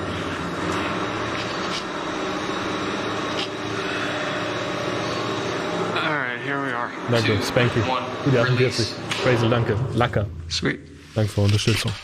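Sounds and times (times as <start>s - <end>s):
lift motor hum and rumble: 0.0s - 10.7s.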